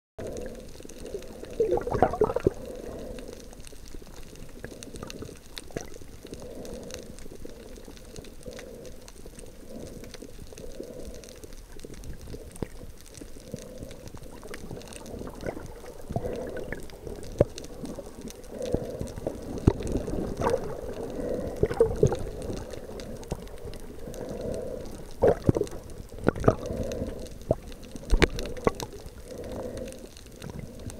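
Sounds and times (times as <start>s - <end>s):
muffled underwater water noise: 0.2s - 30.9s.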